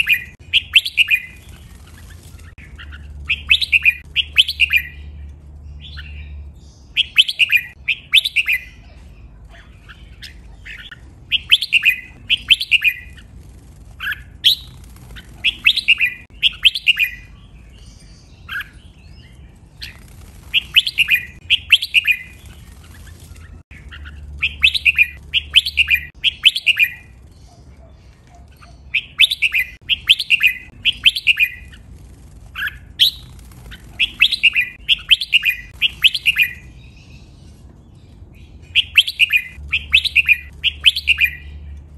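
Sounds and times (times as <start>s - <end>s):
bird singing whistled notes: 0.0s - 2.0s, 2.6s - 9.0s, 9.8s - 13.3s, 14.0s - 27.6s, 28.6s - 31.8s, 32.6s - 37.4s, 38.4s - 41.8s.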